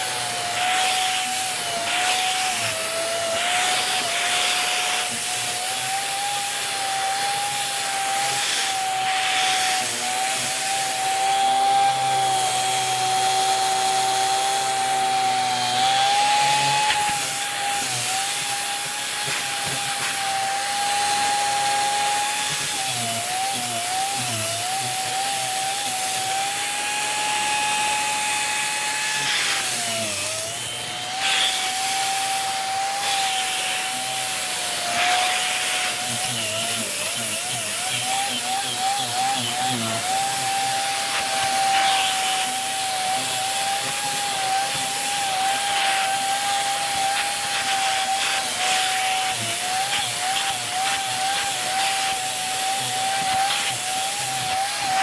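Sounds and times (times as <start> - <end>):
vacuum cleaner whine and airflow: 0.0 - 55.0.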